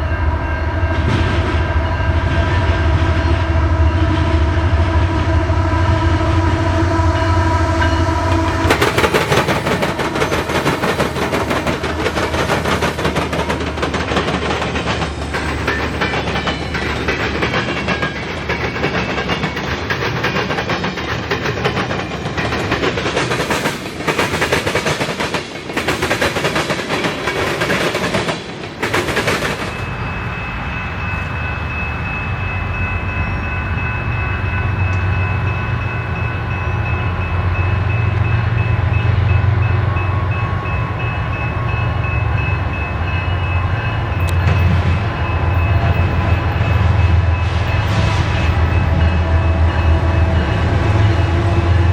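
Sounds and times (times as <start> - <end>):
train wheels clattering on rails: 7.8 - 51.9.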